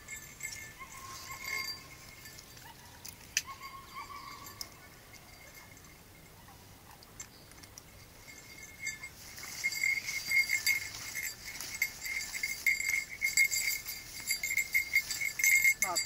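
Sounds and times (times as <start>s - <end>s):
small bell jingling: 0.0s - 16.0s.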